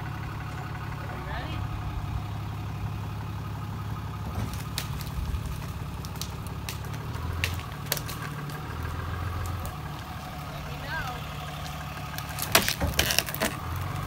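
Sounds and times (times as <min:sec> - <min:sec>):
diesel pickup engine running: 0:00.0 - 0:14.0.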